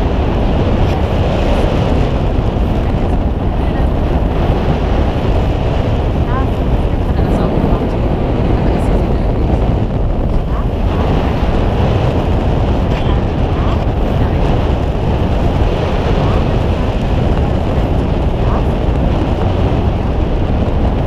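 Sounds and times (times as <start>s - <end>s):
boat engine running: 0.0s - 21.0s
wind on microphone: 0.0s - 21.0s.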